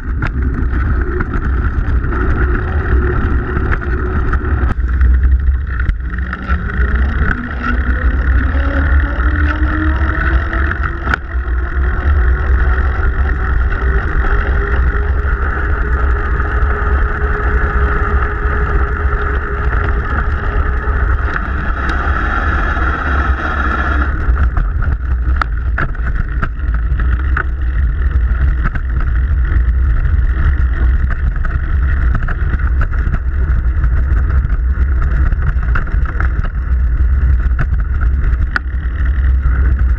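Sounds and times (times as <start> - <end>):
bicycle drivetrain clicks: 0.0 - 39.9
wind rumble on microphone: 0.0 - 39.9.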